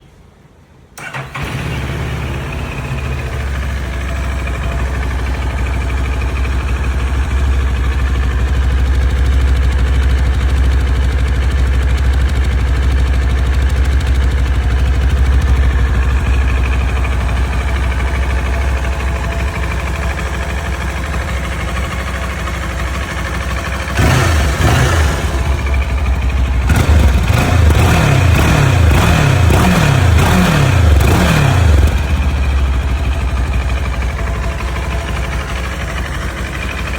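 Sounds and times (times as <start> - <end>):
motorcycle engine idling and revving: 1.0 - 36.9.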